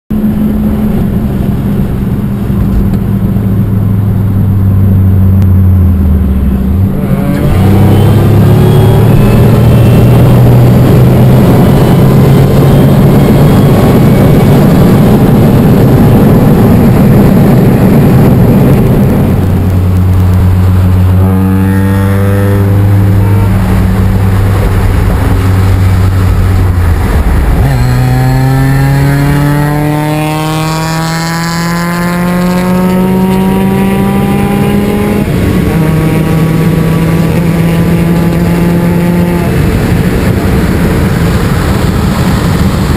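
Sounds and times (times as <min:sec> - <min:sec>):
car engine accelerating: 0:00.1 - 0:42.9.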